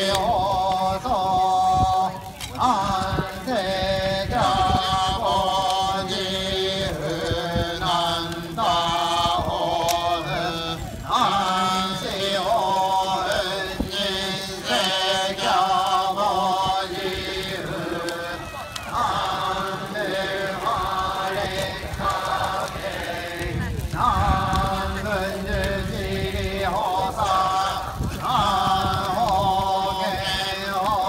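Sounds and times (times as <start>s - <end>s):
group chanting in unison: 0.0s - 31.0s
low drone of voices: 0.0s - 31.0s.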